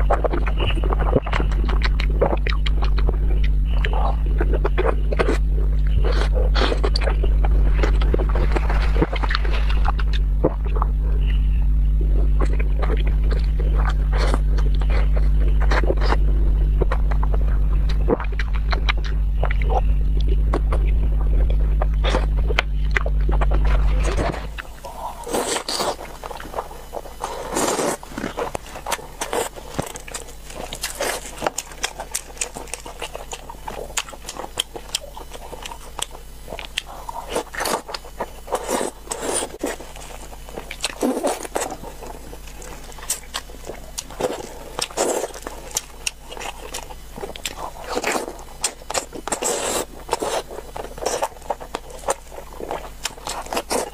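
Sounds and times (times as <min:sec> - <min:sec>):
loud low hum: 0:00.0 - 0:53.9
wet chewing and smacking: 0:00.0 - 0:53.9.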